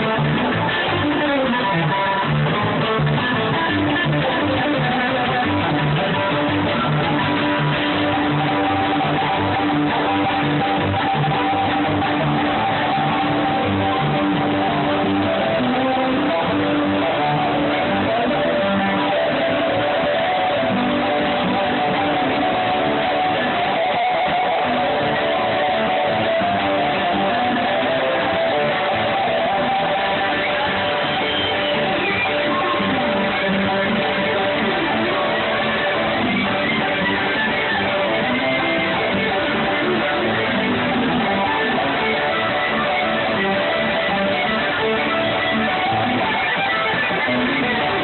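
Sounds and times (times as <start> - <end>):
strummed guitar: 0.0 - 48.0
sustained melody line: 0.0 - 48.0.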